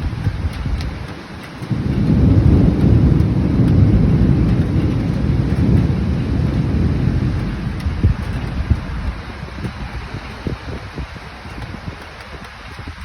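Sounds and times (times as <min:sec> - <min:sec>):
rain falling: 0:00.0 - 0:13.0
thunder rumbling: 0:00.0 - 0:13.0
sharp taps: 0:00.2 - 0:13.0.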